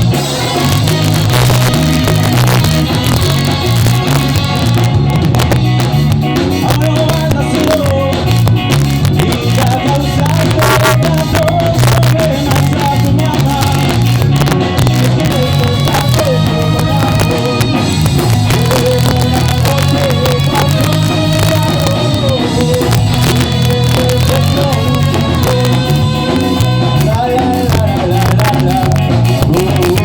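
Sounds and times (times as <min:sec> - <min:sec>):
ska band playing live: 0:00.0 - 0:30.0.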